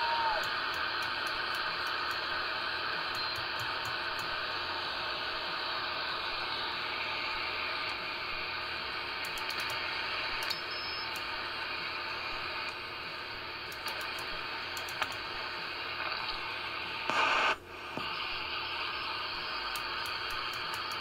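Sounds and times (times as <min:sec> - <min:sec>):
burst of radio hiss: 0:00.0 - 0:21.0
radio static and hiss: 0:00.0 - 0:21.0.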